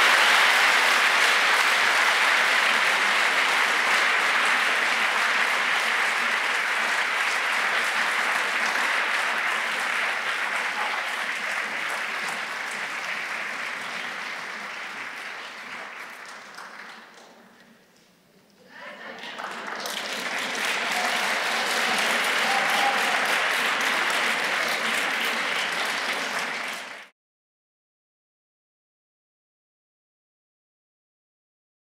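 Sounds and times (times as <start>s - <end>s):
audience applauding: 0.0s - 17.6s, 19.0s - 27.1s.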